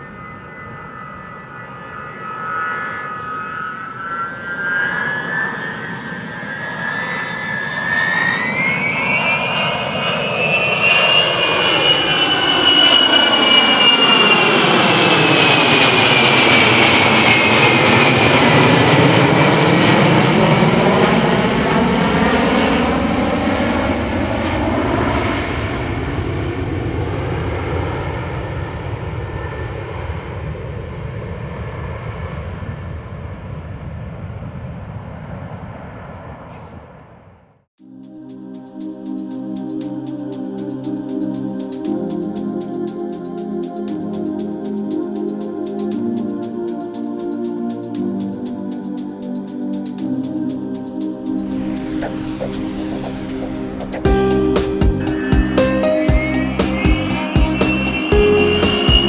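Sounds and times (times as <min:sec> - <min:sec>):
turboprop aircraft flying past: 0:00.0 - 0:36.5, 0:38.2 - 0:56.0.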